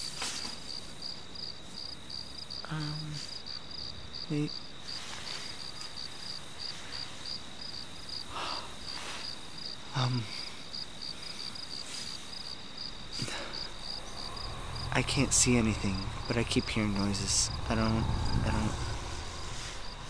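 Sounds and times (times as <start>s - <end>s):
crickets chirping: 0.0s - 20.0s
high insect drone: 0.0s - 20.0s.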